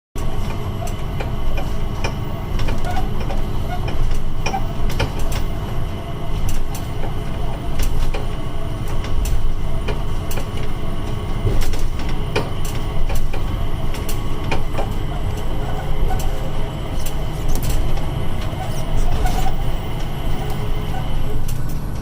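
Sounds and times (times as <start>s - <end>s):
people mover train rumble: 0.2s - 22.0s.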